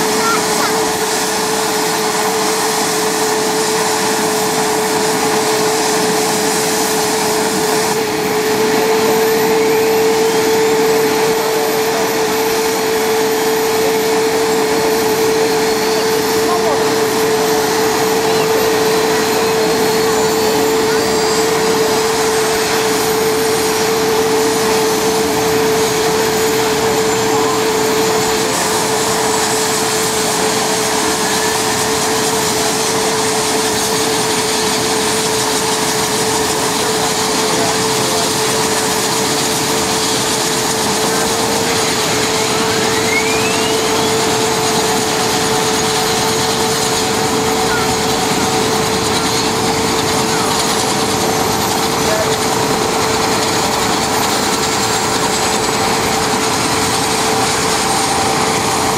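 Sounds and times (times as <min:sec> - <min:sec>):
helicopter turbine whine: 0:00.0 - 0:58.9.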